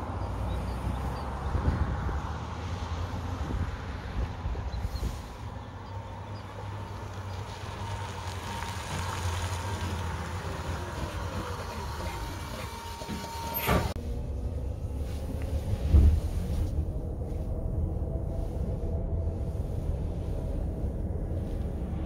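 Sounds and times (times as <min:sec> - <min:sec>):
tyre and road noise: 0:00.0 - 0:22.0
low rumble: 0:01.0 - 0:22.0.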